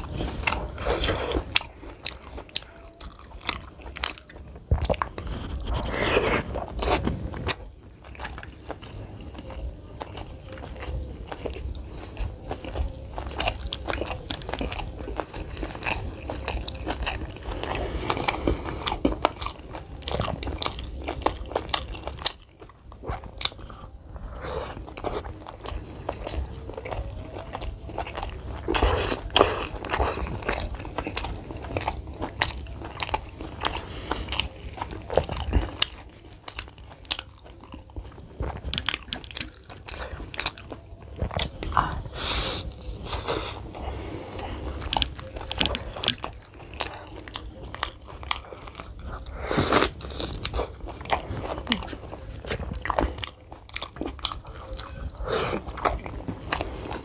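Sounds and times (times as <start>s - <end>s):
crisp crunches of chewing: 0.0s - 57.0s.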